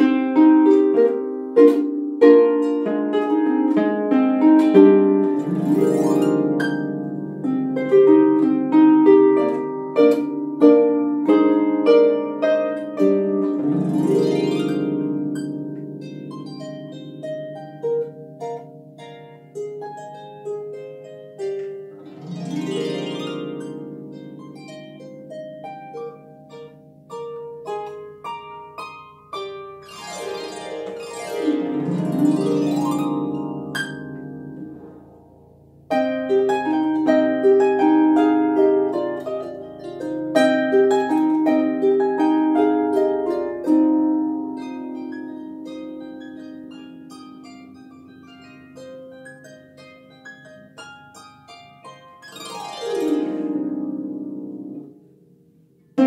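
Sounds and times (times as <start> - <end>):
solo harp playing: 0.0 - 56.0.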